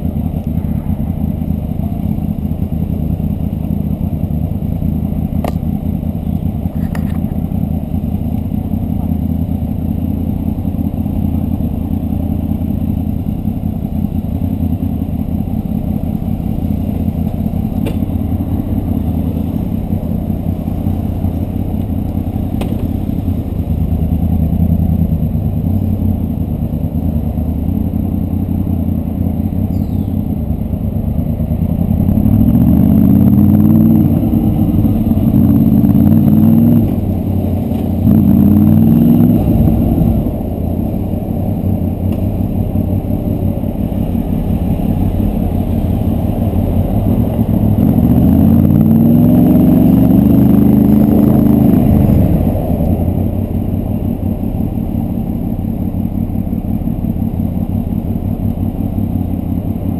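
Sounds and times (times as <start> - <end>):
motorcycle engine idling and accelerating: 0.0 - 59.9.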